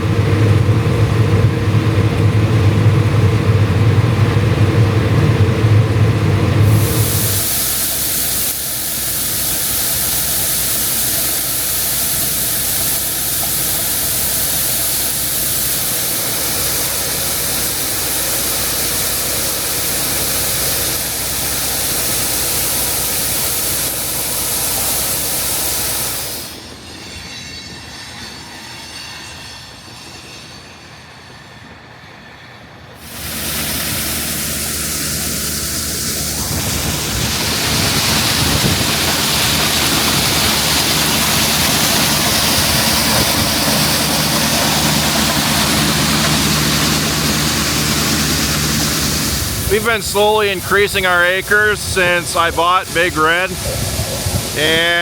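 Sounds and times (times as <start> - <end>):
harvest machinery engine drone: 0.0 - 55.0
mechanical hiss: 6.6 - 29.7, 33.0 - 55.0.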